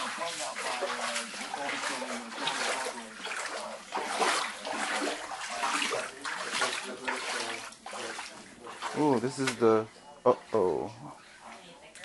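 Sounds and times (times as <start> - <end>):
wading steps splashing: 0.0 - 10.6.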